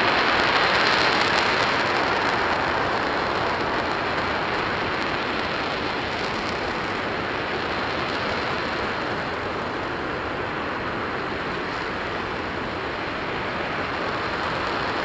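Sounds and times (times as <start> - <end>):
distant rocket engine roar: 0.0 - 15.0.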